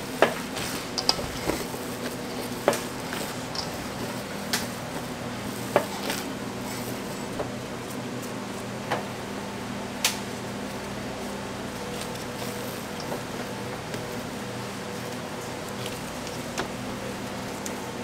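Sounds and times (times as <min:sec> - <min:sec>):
low kitchen hum: 0:00.0 - 0:18.0.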